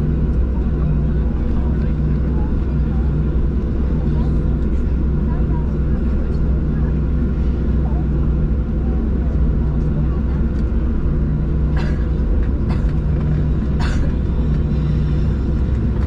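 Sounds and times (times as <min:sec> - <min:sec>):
jet engine cabin rumble: 0:00.0 - 0:16.0.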